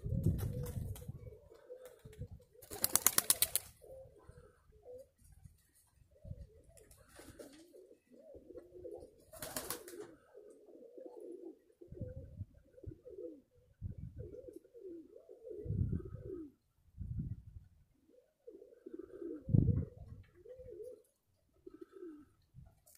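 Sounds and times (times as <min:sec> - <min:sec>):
pigeons cooing: 0:00.0 - 0:05.4, 0:06.0 - 0:16.7, 0:17.9 - 0:22.5.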